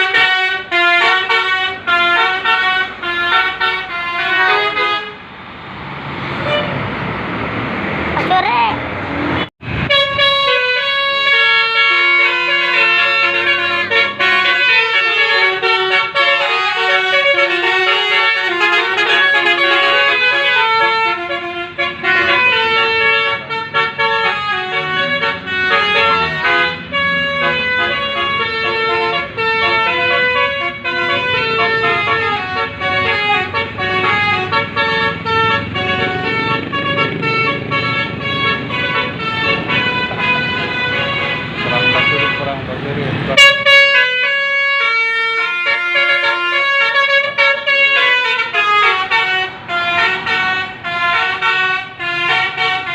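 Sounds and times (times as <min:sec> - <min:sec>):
bus horn playing a melody: 0:00.0 - 0:05.3, 0:06.4 - 0:06.8, 0:09.7 - 0:42.6, 0:43.3 - 0:52.9
vehicle rumble: 0:00.0 - 0:52.9.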